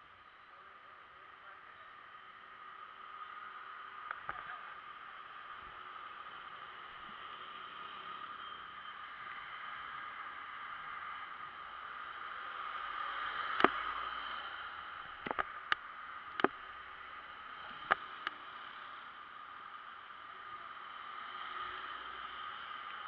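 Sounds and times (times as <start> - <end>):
motorbike road noise: 2.1 - 23.0.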